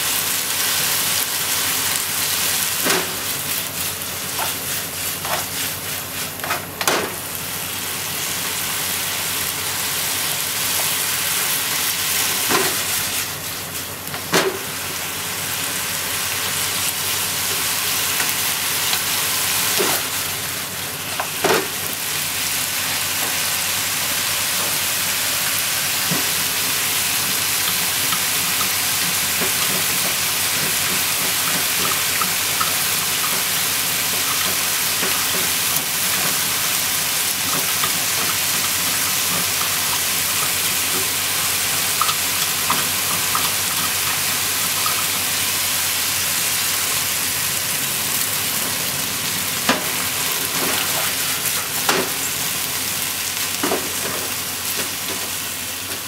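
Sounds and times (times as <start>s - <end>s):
vegetables sizzling in frying pan: 0.0s - 56.0s.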